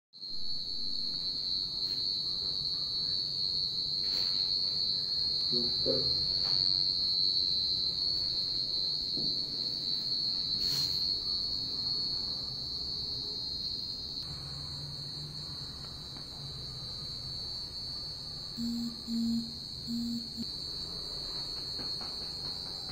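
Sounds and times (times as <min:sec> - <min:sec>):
high-pitched insect drone: 0:00.2 - 0:22.9.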